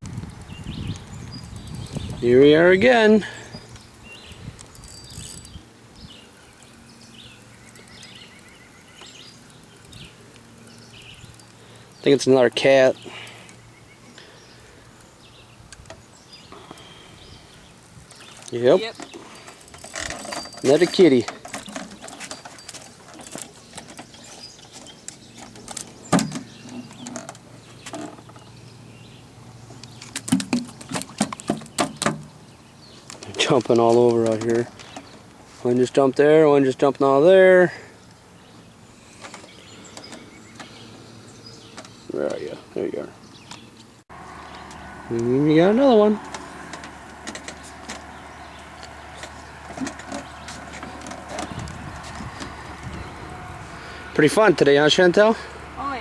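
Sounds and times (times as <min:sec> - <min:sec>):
steady background hiss: 0:00.3 - 0:49.6
bird chirping: 0:00.4 - 0:35.4, 0:37.8 - 0:56.0.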